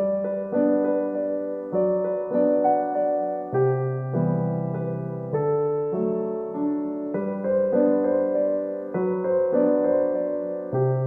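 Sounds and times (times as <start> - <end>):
electric piano chords: 0.0 - 11.0.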